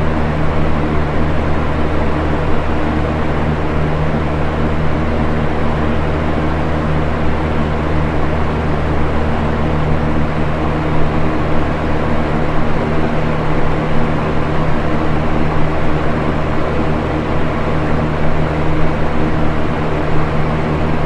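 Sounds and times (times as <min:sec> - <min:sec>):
fan air rush: 0:00.0 - 0:21.0
low motor hum: 0:00.0 - 0:21.0.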